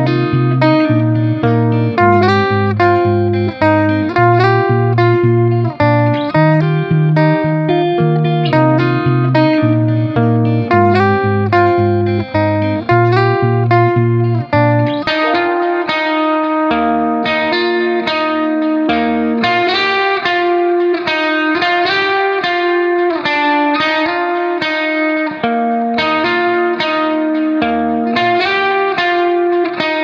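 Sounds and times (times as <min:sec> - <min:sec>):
plucked guitar melody over a pulse: 0:00.0 - 0:30.0.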